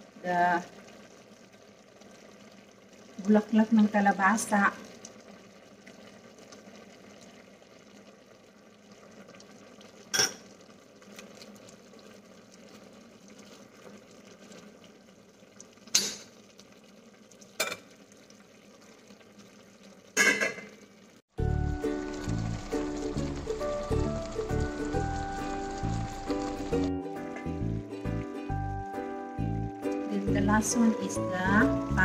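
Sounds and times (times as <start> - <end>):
bubbling hiss of simmering liquid: 0.0 - 32.0.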